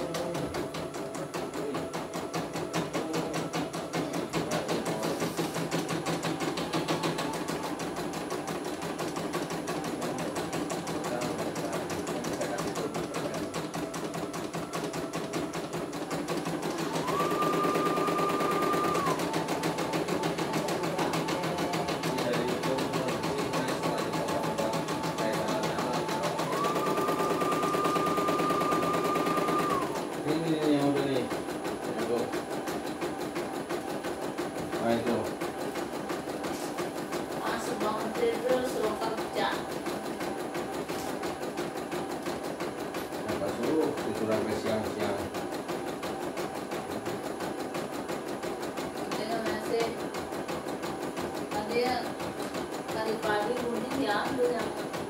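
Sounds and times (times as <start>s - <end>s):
embroidery machine needle chatter: 0.0s - 55.0s.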